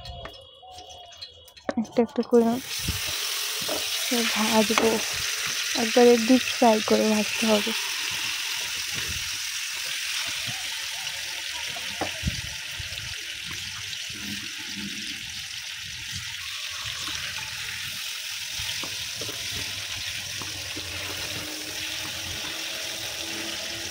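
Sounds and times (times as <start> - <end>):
fish deep-frying in oil: 0.0 - 23.9.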